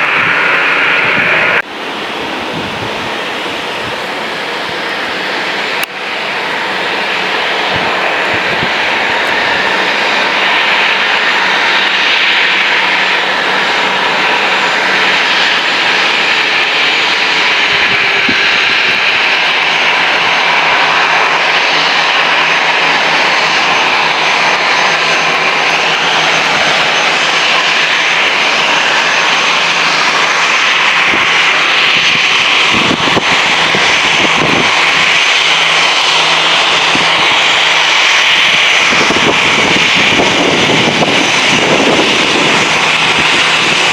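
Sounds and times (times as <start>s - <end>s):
high engine whine: 0.0s - 43.9s
jet engine roar: 0.0s - 43.9s.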